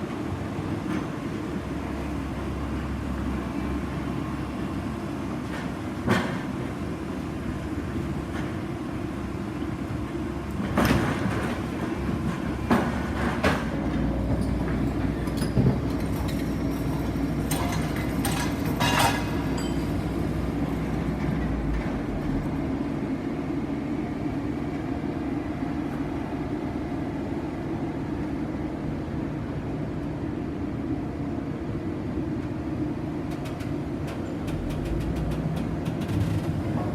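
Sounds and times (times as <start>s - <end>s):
heavy construction machinery running: 0.0s - 36.9s.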